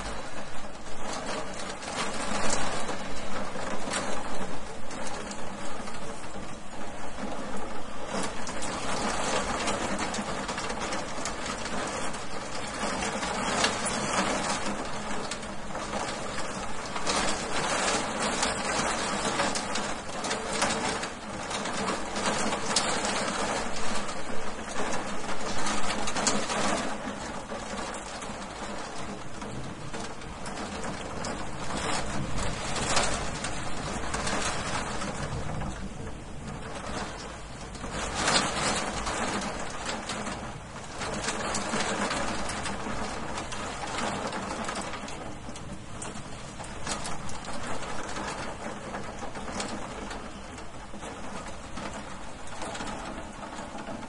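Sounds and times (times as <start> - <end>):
hail pelting window glass: 0.0 - 54.0.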